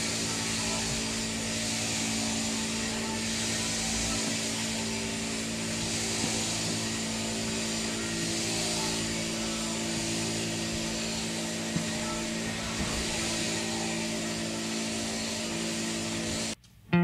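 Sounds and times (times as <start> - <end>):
shearing machine humming: 0.0 - 17.0.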